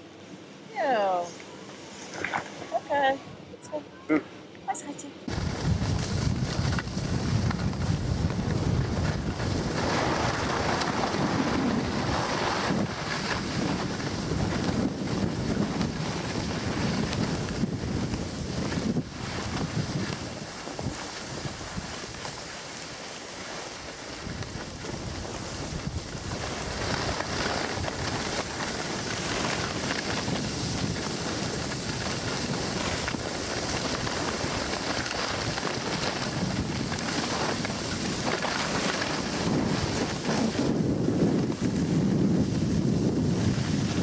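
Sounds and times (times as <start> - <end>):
skis hissing over snow: 1.8 - 3.1, 5.3 - 44.0
wind buffeting microphone: 5.2 - 22.6, 23.8 - 44.0.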